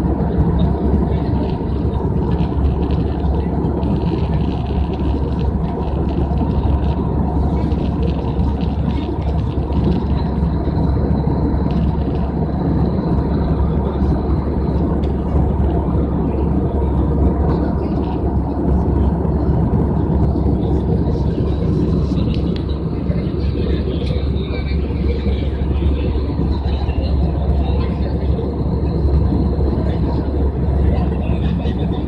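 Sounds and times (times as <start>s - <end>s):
aircraft cabin engine rumble: 0.0s - 32.0s.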